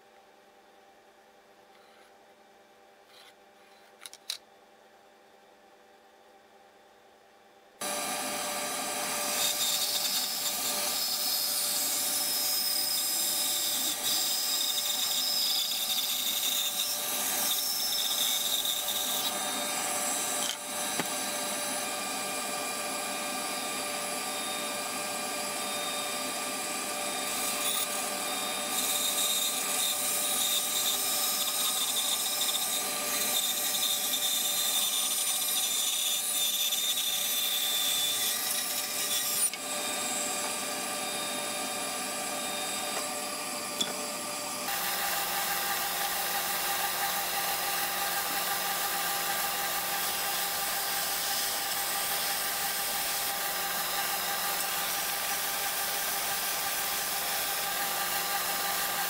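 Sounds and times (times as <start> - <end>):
band saw cutting wood: 7.8 - 59.0.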